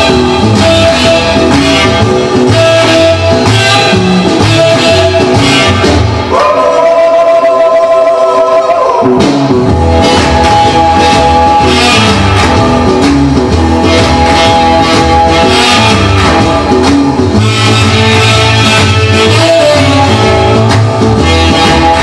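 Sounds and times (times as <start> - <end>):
rock and roll music: 0.0 - 22.0.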